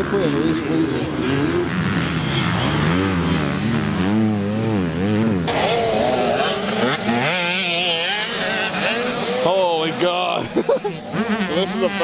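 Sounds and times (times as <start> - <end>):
dirt bike engines revving: 0.0 - 12.0
higher sharper bike engine: 0.0 - 12.0.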